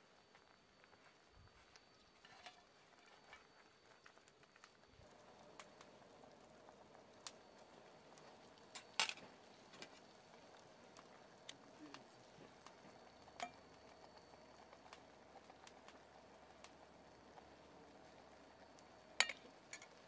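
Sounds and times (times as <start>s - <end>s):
pot simmering: 0.0s - 20.0s.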